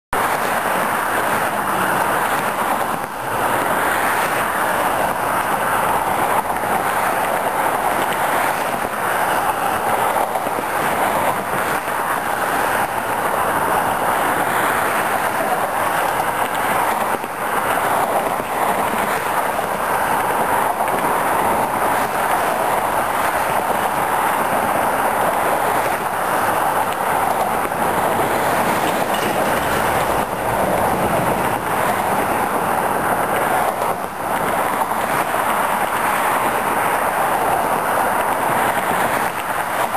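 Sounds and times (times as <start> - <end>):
freeway traffic rush: 0.1 - 39.9.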